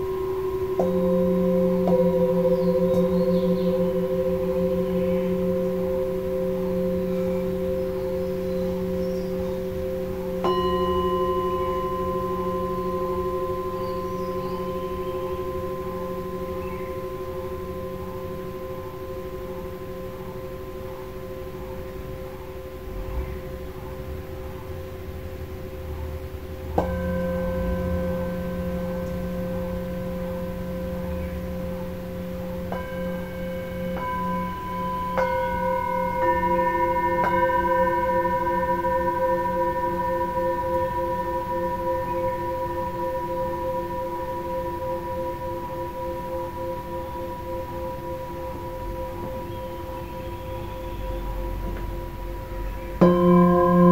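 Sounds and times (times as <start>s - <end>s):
singing bowls ringing: 0.0s - 53.9s.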